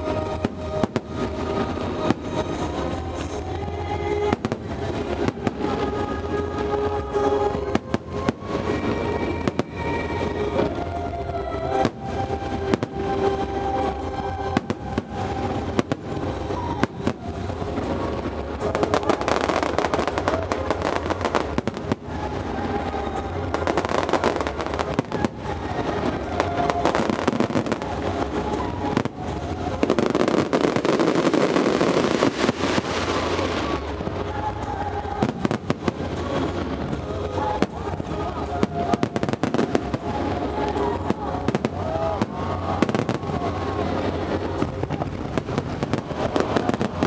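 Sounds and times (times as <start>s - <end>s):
firework crackling: 0.0s - 47.0s.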